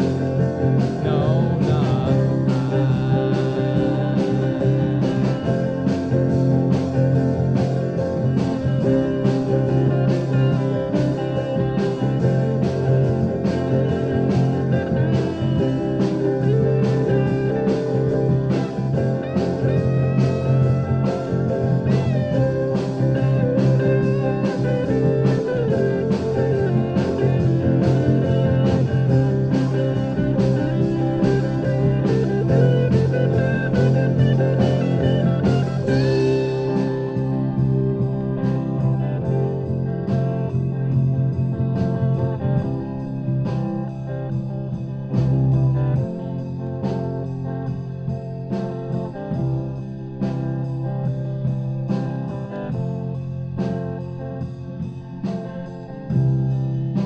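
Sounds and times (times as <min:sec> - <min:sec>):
bending guitar notes: 0:00.0 - 0:57.0
rock band instrumental: 0:00.0 - 0:57.0
steady drum beat: 0:00.0 - 0:57.0.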